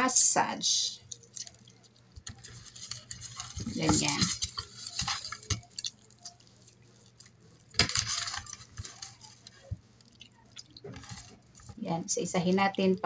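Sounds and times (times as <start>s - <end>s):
hands squelching raw chicken: 0.8s - 11.8s.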